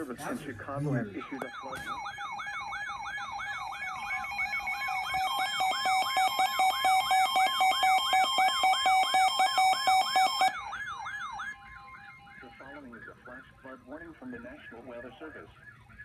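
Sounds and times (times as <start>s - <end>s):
electronic siren yelping: 0.9s - 16.0s.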